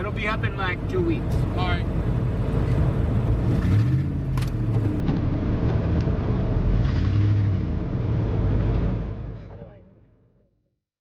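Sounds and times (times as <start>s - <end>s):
car engine and road rumble: 0.0s - 10.7s.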